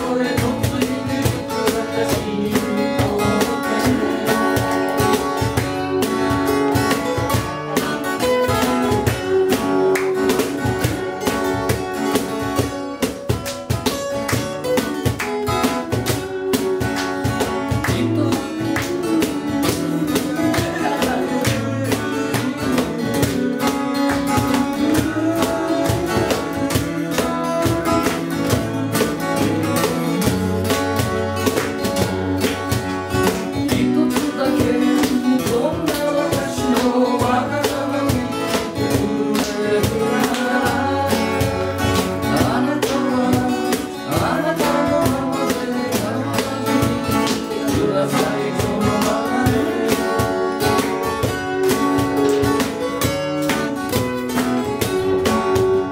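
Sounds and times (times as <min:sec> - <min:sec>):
acoustic guitars strumming: 0:00.0 - 0:55.9
cajon beat: 0:00.0 - 0:55.9.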